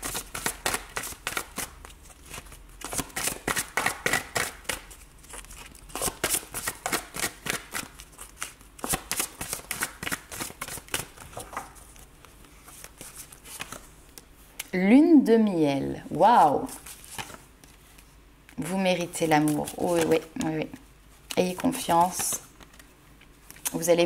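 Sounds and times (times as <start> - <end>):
cards being shuffled by hand: 0.0 - 14.3, 16.6 - 20.6, 21.3 - 23.9.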